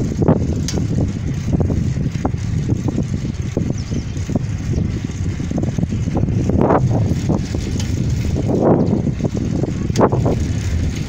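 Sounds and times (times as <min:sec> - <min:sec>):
low rumble of road movement: 0:00.0 - 0:11.0
wind buffeting microphone: 0:00.0 - 0:11.0.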